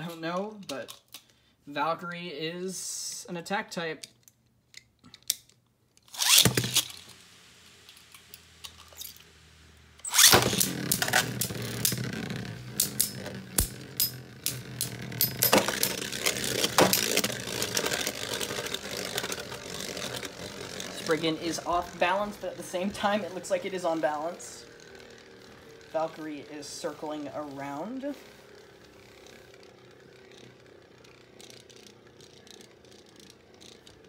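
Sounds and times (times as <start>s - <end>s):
spinning tops scraping and clacking: 6.0s - 9.4s, 10.0s - 34.0s
spinning tops launched into stadium: 6.1s - 34.0s.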